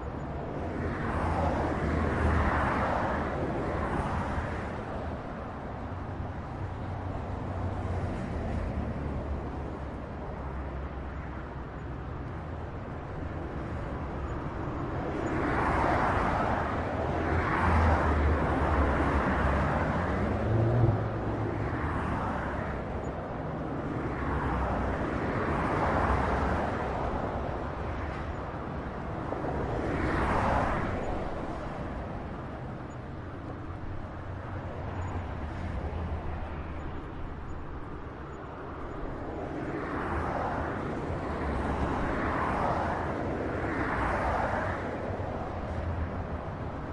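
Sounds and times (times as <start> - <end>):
highway traffic passing: 0.0 - 46.9.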